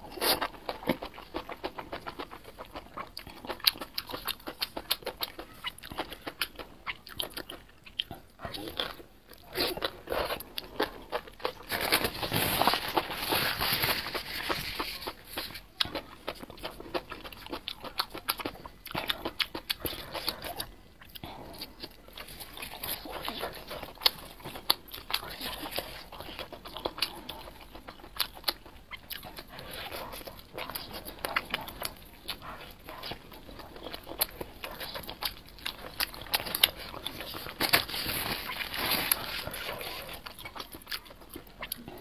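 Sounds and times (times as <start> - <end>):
close-miked chewing and crunching: 0.0 - 42.0.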